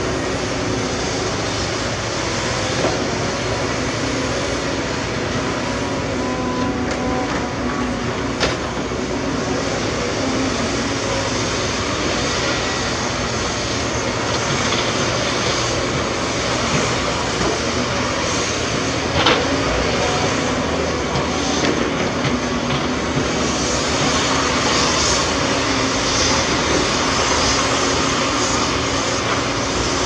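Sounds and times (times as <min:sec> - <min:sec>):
diesel machinery running: 0:00.0 - 0:30.0.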